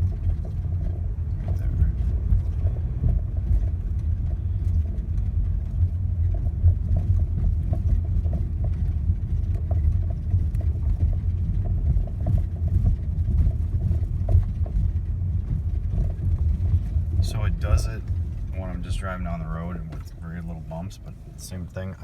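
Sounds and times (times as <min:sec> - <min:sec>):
car road rumble: 0:00.0 - 0:22.0.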